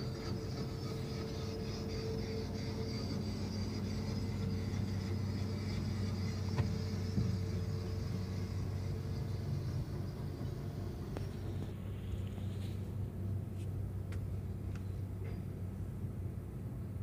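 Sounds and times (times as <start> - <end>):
car engine drone: 0.0 - 16.6.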